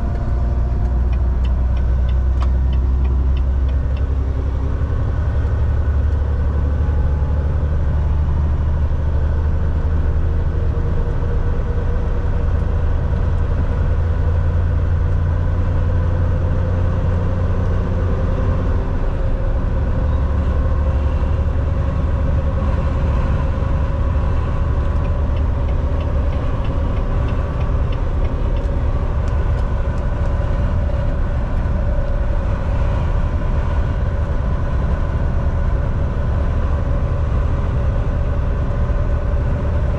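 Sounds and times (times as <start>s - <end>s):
road noise: 0.0s - 39.9s
truck diesel engine drone: 0.0s - 39.9s.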